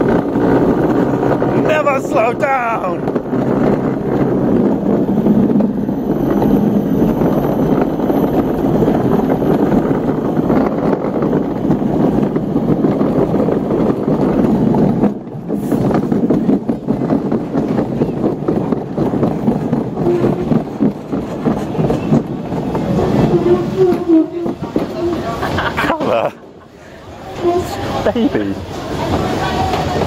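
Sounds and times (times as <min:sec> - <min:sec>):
wind on microphone: 0:00.0 - 0:26.3
wheels rumbling on asphalt: 0:00.0 - 0:30.0.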